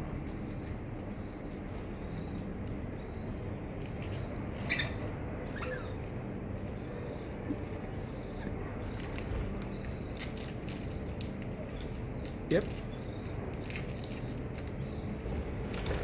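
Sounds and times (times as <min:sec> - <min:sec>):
budgies chirping: 0:00.3 - 0:16.0.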